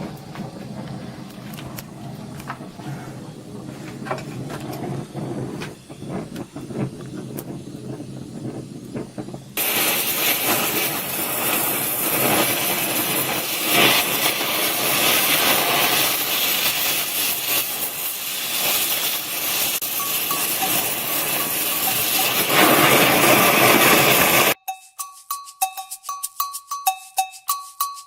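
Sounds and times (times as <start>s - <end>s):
welding torch hissing: 0.0s - 24.6s.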